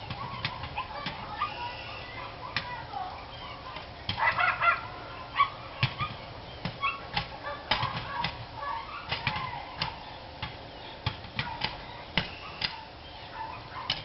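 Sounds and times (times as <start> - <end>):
dogs barking: 0.1 - 6.2, 6.8 - 10.0, 11.4 - 14.0.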